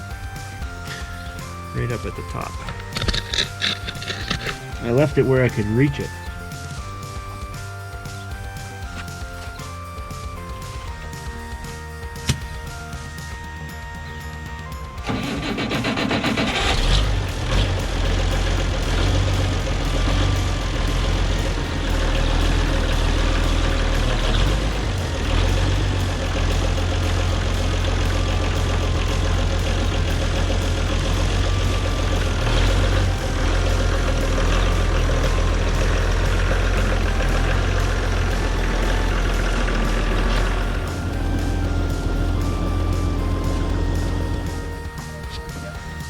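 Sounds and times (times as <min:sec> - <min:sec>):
backhoe engine running: 0:00.0 - 0:46.0.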